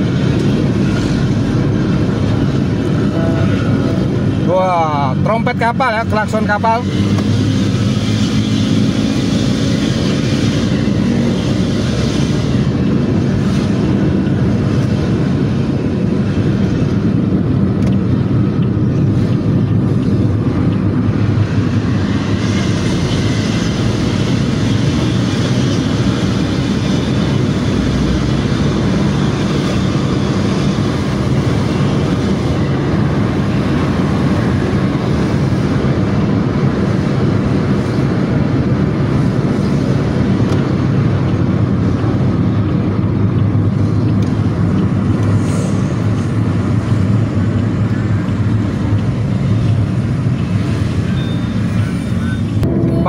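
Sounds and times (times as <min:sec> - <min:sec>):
bus engine droning: 0:00.0 - 0:53.0
road noise: 0:00.0 - 0:53.0.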